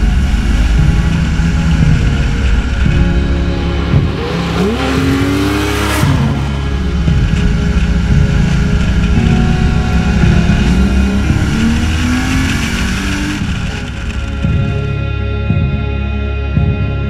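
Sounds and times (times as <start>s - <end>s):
tyre noise: 0.0s - 15.8s
car engine accelerating: 0.0s - 16.8s
wind noise: 0.0s - 17.0s.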